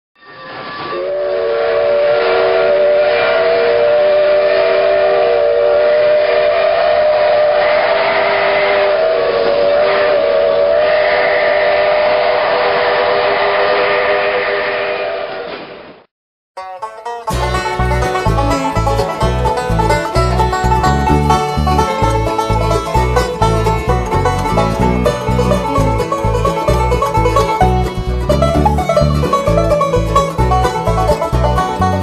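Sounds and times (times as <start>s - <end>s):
train noise: 0.2s - 16.1s, 17.3s - 32.0s
train whistle chord: 0.8s - 15.6s, 16.8s - 32.0s.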